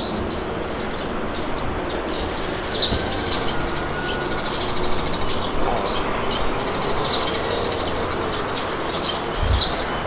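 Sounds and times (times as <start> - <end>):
small birds chirping: 0.0 - 10.0
wind: 0.0 - 10.0.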